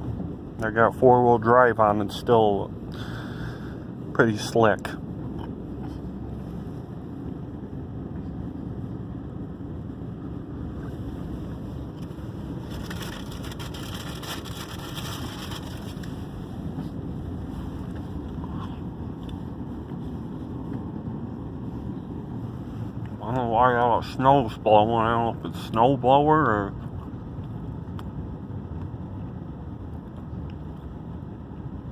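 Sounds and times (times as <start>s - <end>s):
tyres on snowy road: 0.0s - 31.9s
vehicle engine rumble: 0.0s - 31.9s.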